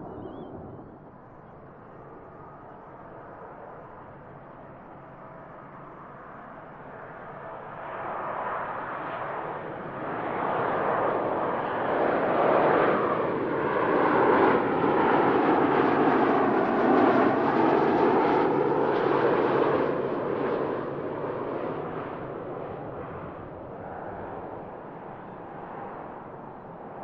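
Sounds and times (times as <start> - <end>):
jet airliner engine roar: 0.0 - 27.0.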